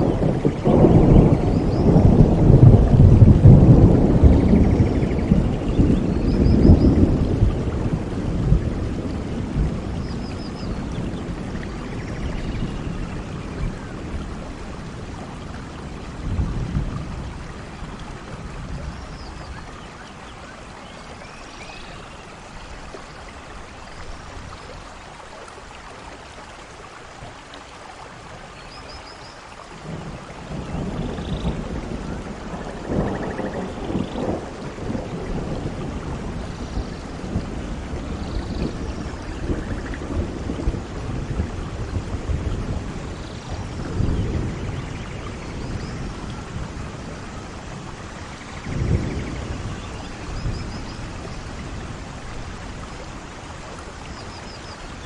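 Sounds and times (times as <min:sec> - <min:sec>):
rolling thunder: 0:00.0 - 0:19.7, 0:29.8 - 0:55.0
steady rain: 0:00.0 - 0:55.0.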